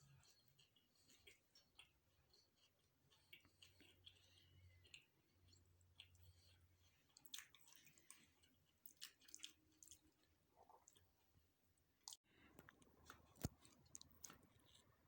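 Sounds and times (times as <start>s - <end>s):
chewing with wet mouth clicks: 0.0s - 11.2s, 12.0s - 15.0s.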